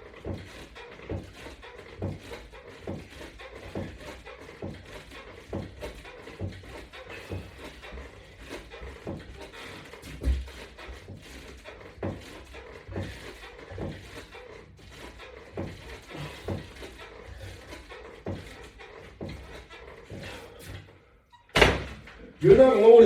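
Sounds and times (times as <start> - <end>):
dull thumps and knocks: 0.0 - 23.0.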